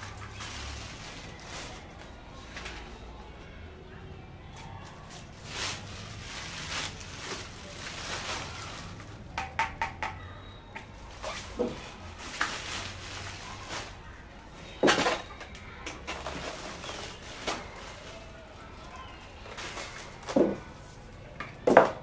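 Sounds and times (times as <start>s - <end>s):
plastic wrapping crinkling: 0.0s - 3.1s, 4.6s - 9.6s, 10.8s - 21.9s.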